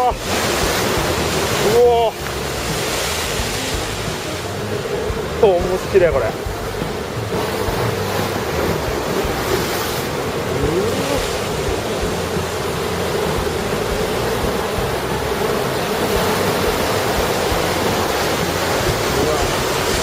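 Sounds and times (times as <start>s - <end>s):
heavy surf pounding rocks: 0.0s - 20.0s.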